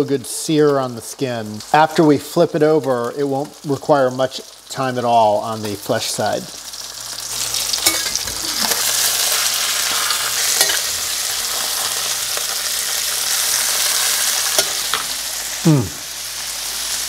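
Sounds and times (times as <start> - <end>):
fish fillets sizzling in a pan: 0.0 - 17.0.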